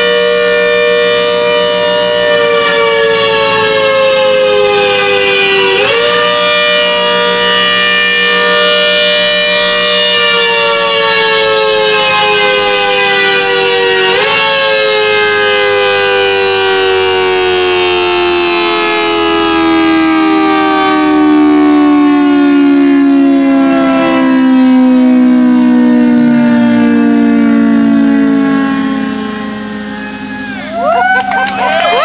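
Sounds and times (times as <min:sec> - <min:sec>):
siren winding down: 0:00.0 - 0:32.0.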